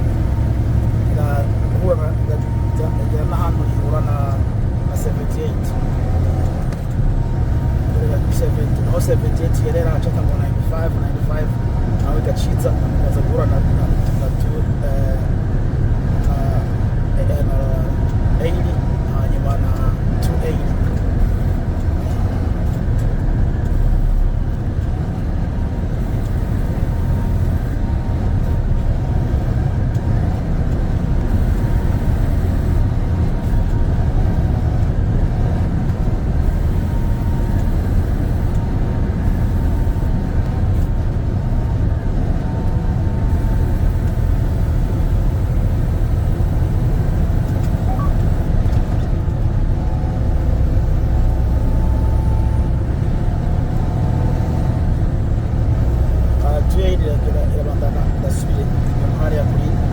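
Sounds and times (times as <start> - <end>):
road noise: 0.0 - 59.9
truck engine drone: 0.0 - 59.9.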